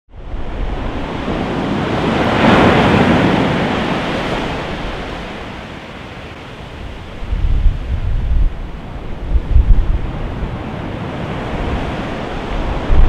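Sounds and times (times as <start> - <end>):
ocean wave breaking: 0.2 - 13.0.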